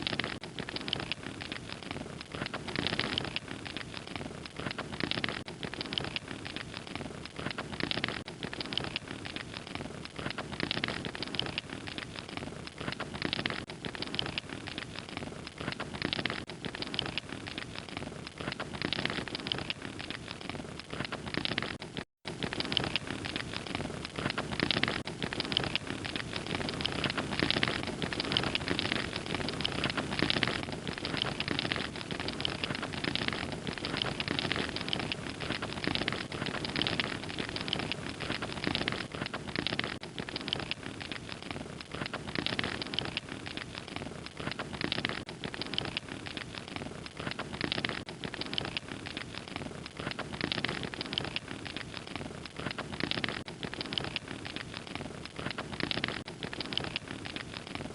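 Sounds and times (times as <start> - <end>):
log fire crackling: 0.0 - 57.9.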